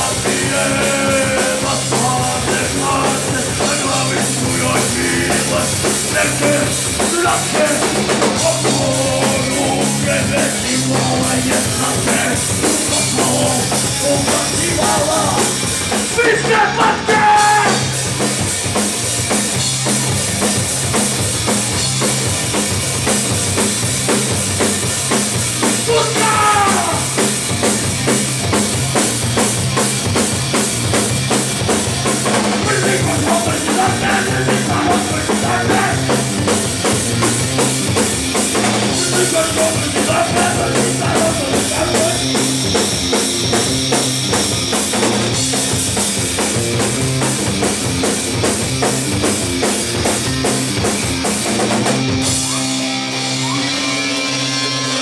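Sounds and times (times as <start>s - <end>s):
bass guitar: 0.0s - 55.0s
drum kit beat: 0.0s - 55.0s
electric guitar: 0.0s - 55.0s.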